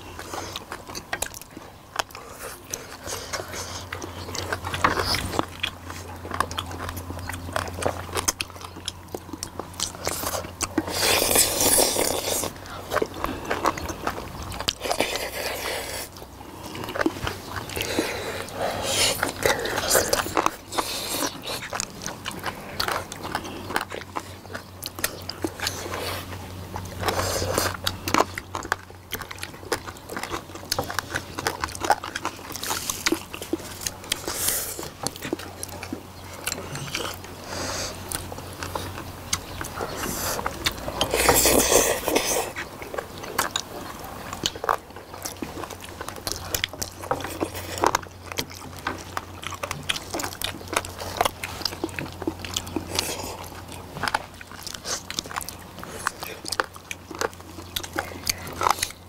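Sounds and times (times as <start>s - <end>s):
people chewing food: 0.0s - 59.0s
slurping: 0.0s - 59.0s.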